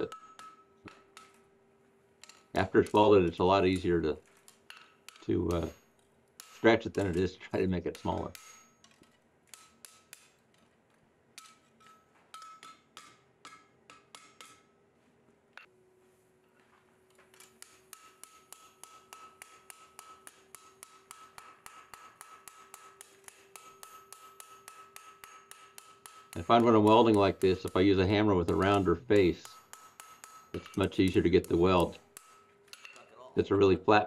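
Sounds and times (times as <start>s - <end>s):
hammer striking steel on anvil: 0.0s - 1.6s, 2.2s - 10.7s, 11.3s - 14.8s, 17.3s - 33.0s.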